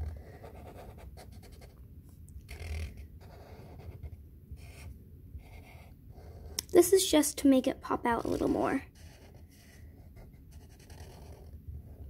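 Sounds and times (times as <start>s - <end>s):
marker rubbing on paper: 0.0s - 1.7s, 2.5s - 6.6s, 8.0s - 12.0s.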